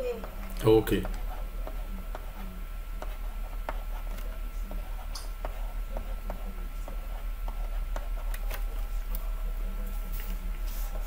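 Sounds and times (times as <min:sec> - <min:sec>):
low electrical hum: 0:00.0 - 0:11.0
stylus tapping tablet screen: 0:00.1 - 0:09.4.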